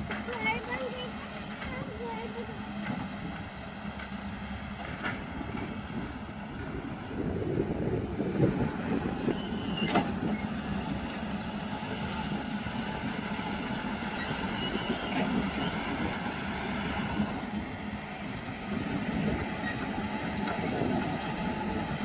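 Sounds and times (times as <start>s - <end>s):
heavy diesel engines droning: 0.0s - 22.0s.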